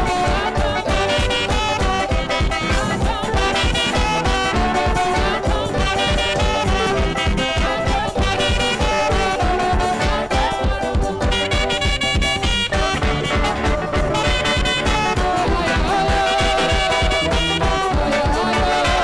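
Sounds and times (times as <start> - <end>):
band with fast drum beat: 0.0 - 19.0
saxophone melody: 0.0 - 19.0.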